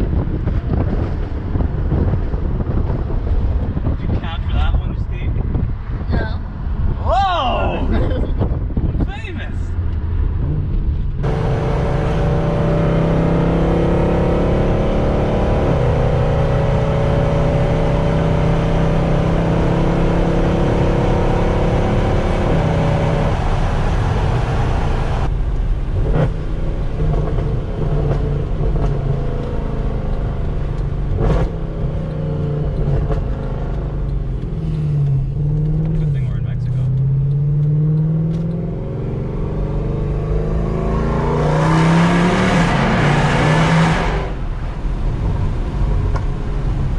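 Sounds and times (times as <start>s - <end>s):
deep car exhaust at low rpm: 0.0s - 7.0s, 9.8s - 46.9s.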